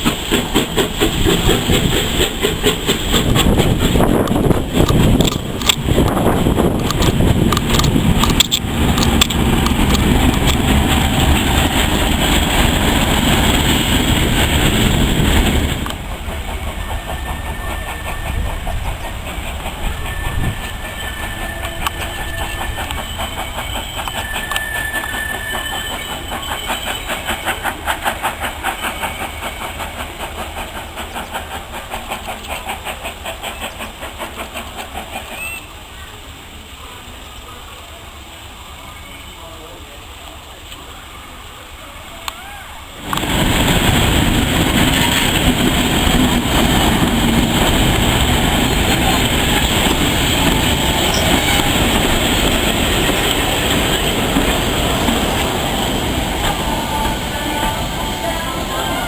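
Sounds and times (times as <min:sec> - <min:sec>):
train wheels clacking on rails: 0:00.0 - 0:38.0, 0:43.0 - 0:59.0
train rushing noise: 0:00.0 - 0:59.0.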